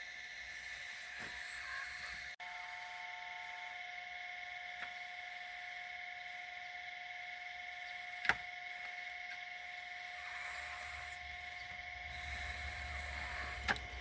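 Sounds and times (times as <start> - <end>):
log splitter humming: 0.0 - 14.0.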